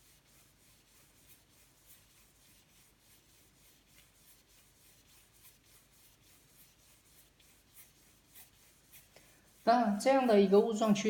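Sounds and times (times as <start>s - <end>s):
paintbrush swishing on canvas: 0.0s - 11.0s.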